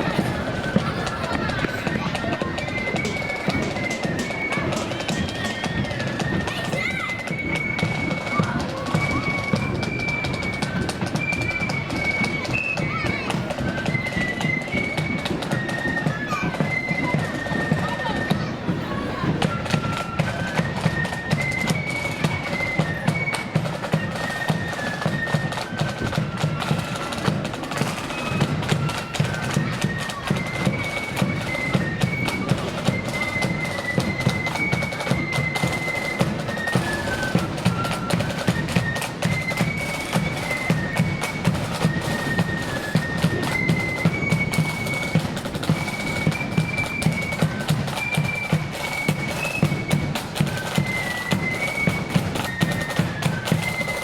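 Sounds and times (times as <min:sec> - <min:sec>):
flute band melody: 0:00.0 - 0:54.0
steady drum beats: 0:00.0 - 0:54.0.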